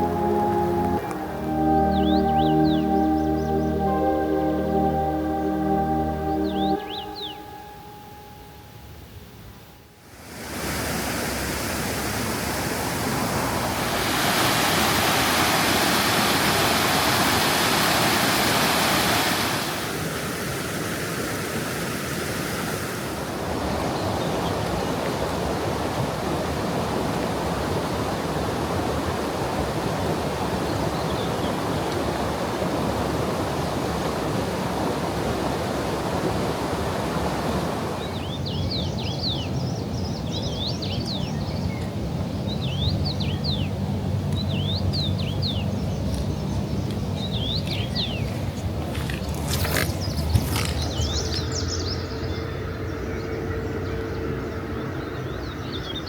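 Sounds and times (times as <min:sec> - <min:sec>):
mountain stream rushing: 0:00.0 - 0:08.6, 0:10.0 - 0:38.6, 0:44.0 - 0:52.2.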